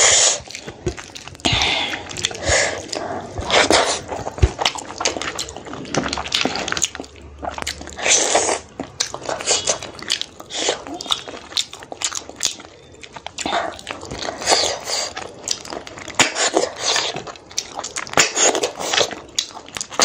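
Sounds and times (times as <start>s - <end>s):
wet chewing and lip smacking: 0.0s - 20.0s.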